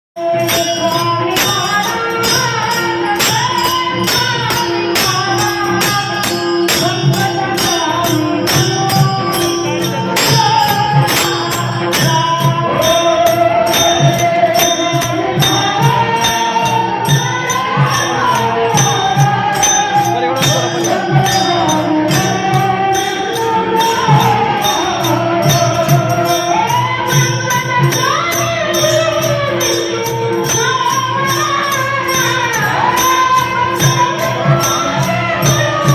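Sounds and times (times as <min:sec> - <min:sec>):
jingling metallic percussion: 0:00.2 - 0:35.9
person singing devotional song: 0:00.2 - 0:35.9
steady held drone: 0:00.3 - 0:35.9.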